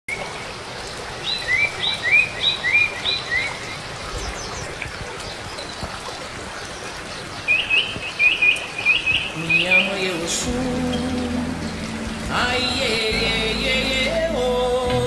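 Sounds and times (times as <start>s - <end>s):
running water: 0.1s - 15.0s
bird chirping: 1.2s - 13.8s.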